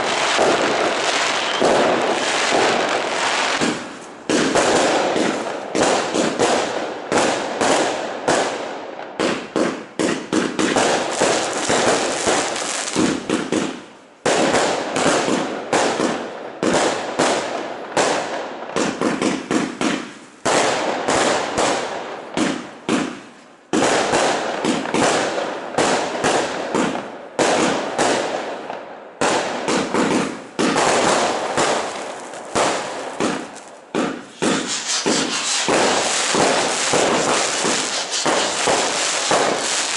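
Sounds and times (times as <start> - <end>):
firecrackers crackling: 0.0 - 39.9
fireworks bursting: 0.0 - 39.9.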